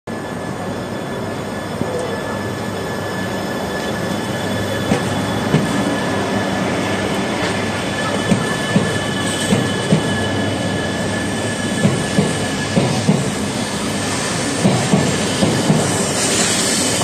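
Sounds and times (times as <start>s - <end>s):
train running noise: 0.1s - 17.0s.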